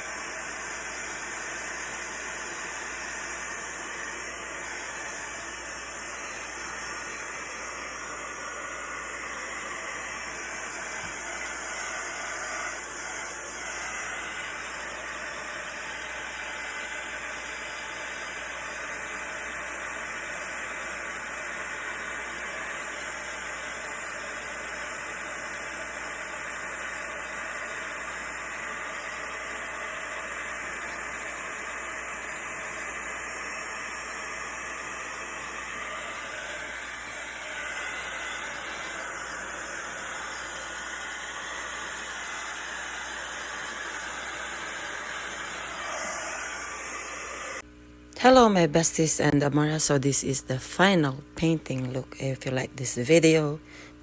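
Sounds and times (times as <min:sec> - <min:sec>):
heat gun blowing hiss: 0:00.0 - 0:47.7.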